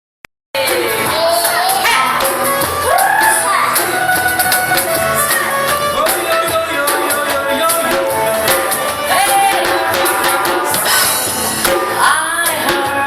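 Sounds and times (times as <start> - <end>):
steady percussion beat: 0.6 - 13.0
voices singing sliding in pitch: 0.6 - 13.0.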